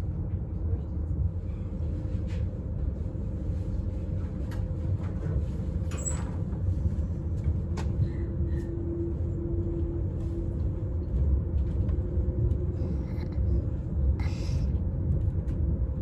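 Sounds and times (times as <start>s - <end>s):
train rumbling from inside carriage: 0.0s - 16.0s.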